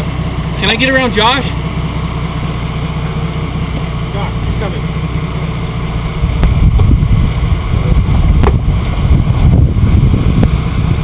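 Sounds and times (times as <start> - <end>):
off-road engine pulling hard: 0.0 - 11.0.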